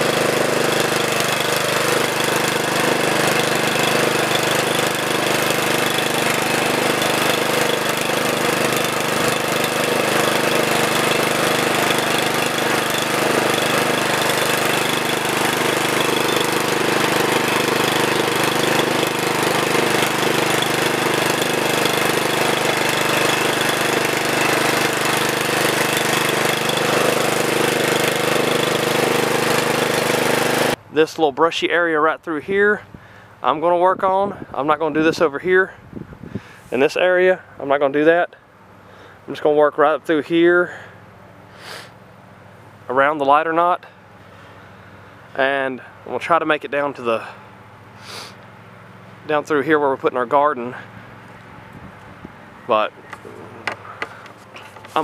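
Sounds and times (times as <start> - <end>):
brush hog engine running: 0.0 - 30.8, 40.6 - 55.0.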